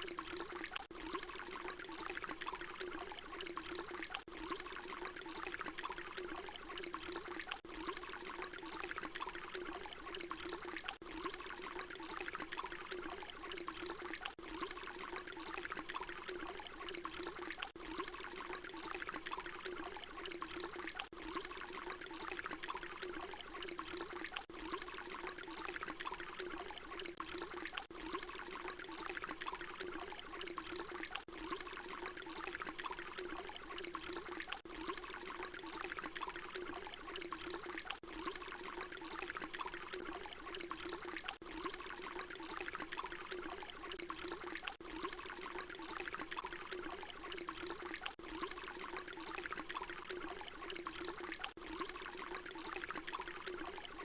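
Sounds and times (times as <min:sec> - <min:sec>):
water pouring: 0:00.0 - 0:54.0.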